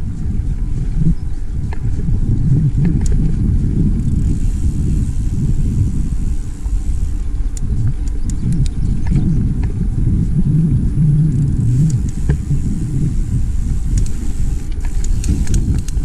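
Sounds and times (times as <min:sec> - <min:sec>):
bike clicks and rattles: 0:00.0 - 0:16.0
bike tyres on dirt trail: 0:00.0 - 0:16.0
wind rumble on microphone: 0:00.0 - 0:16.0.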